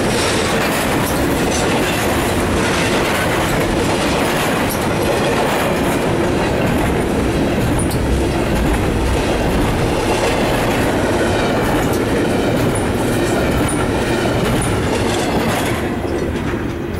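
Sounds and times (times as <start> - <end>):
clickety-clack over rail joints: 0.0 - 16.9
freight train wheels rumbling: 0.0 - 16.9.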